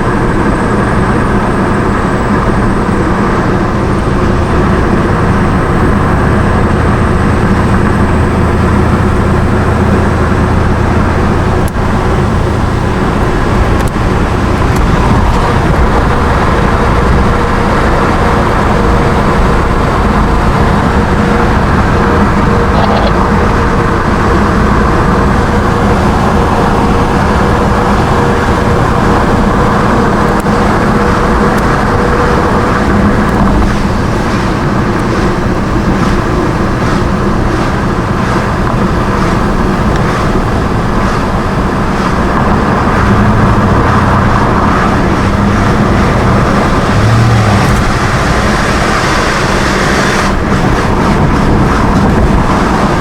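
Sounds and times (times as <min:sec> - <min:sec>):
car engine and tyre noise: 0:00.0 - 0:53.0.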